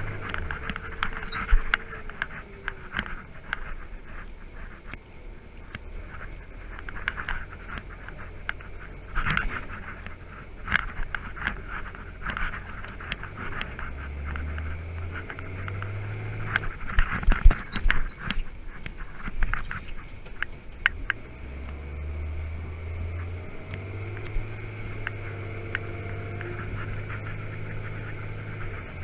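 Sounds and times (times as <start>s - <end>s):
truck engine drone: 0.0s - 29.0s.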